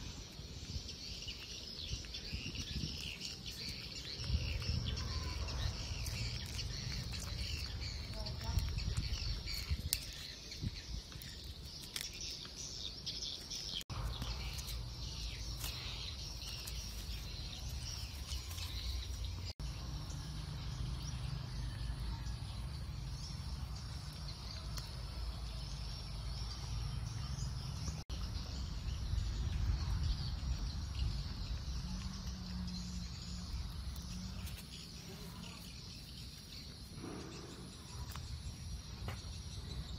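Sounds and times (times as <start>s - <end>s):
faint high chirping: 0.0s - 39.9s.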